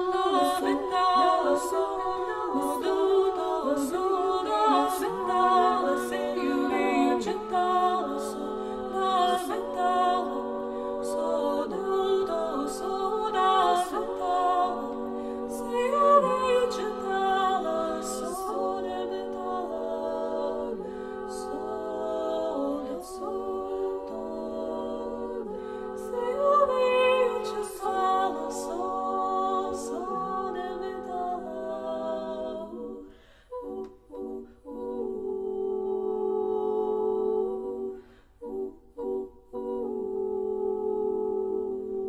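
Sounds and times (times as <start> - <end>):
unaccompanied voices singing in parts: 0.0 - 42.0.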